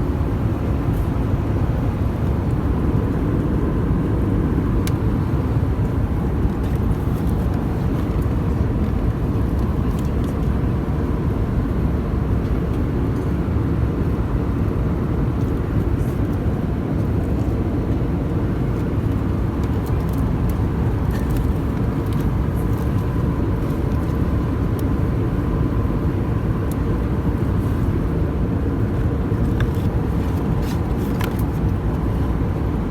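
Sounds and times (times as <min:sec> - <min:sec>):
airliner cabin rumble: 0:00.0 - 0:32.9.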